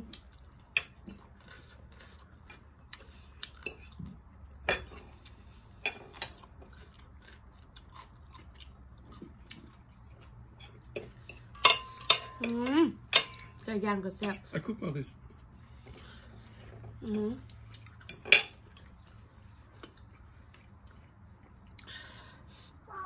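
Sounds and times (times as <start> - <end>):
quiet chewing: 0.0 - 11.5, 15.2 - 22.9.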